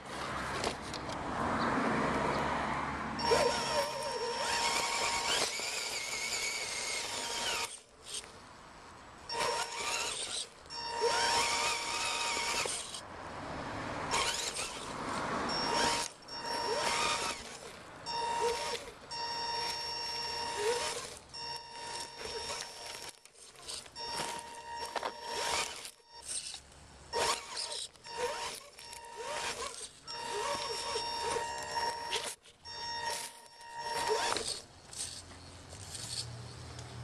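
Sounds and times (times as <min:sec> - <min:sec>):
electric motor and gears whining: 0:00.0 - 0:37.0.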